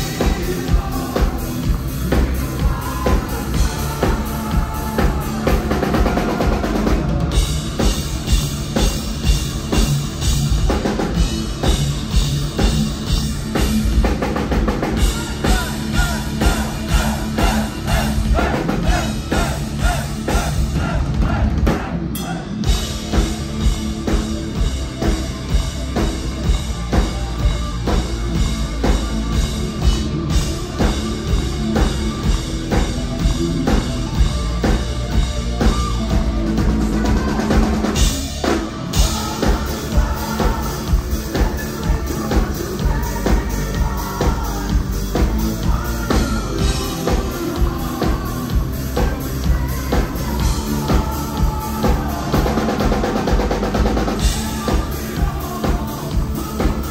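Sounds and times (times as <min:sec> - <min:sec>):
drum kit beating: 0:00.0 - 0:56.9
rock band playing: 0:00.0 - 0:56.9.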